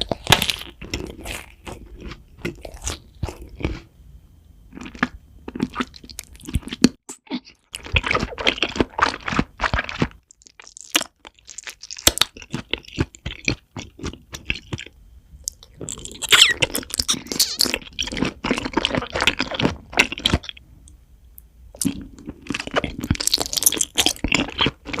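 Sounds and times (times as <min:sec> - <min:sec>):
crunching and chewing food: 0:00.0 - 0:03.9, 0:04.6 - 0:25.0.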